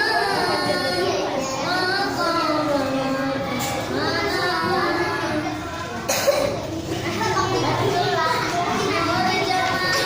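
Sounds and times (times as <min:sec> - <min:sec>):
child singing: 0:00.0 - 0:06.0, 0:07.2 - 0:10.0.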